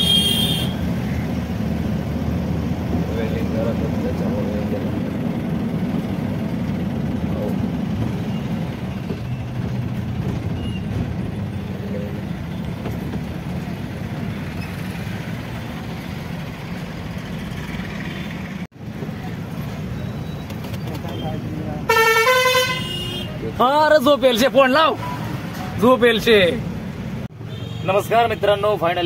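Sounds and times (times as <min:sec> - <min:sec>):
vehicle engine and road rumble: 0:00.0 - 0:29.0.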